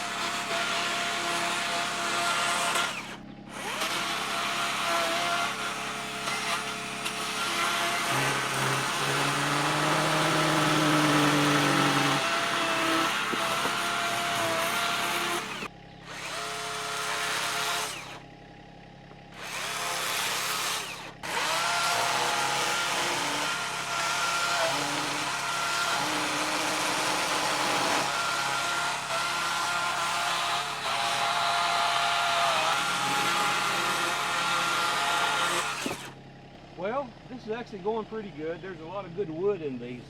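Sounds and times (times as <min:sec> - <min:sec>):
chainsaw cutting logs: 0:00.0 - 0:18.3, 0:19.0 - 0:36.2.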